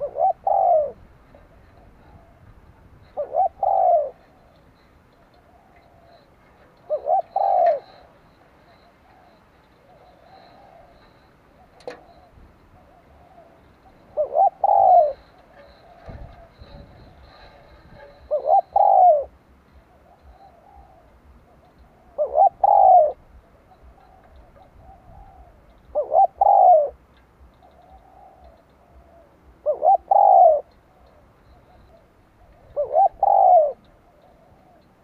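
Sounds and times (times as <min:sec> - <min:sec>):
dove cooing: 0:00.0 - 0:35.0.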